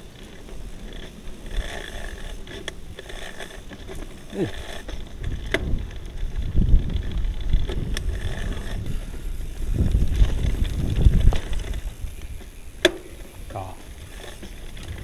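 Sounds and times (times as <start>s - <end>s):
mountain bike rumbling on trail: 0.0s - 15.0s.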